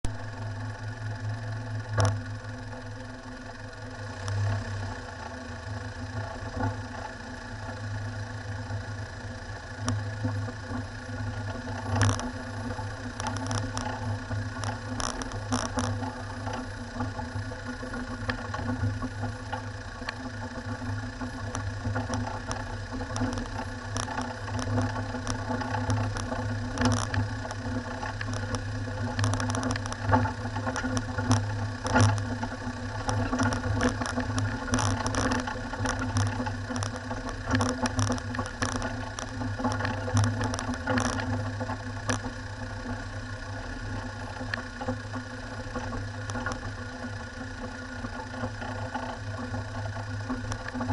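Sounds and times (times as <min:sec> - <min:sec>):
vehicle engine running at low revs: 0:00.0 - 0:50.9
clicks and rattles over stones: 0:01.9 - 0:08.0, 0:09.7 - 0:50.9.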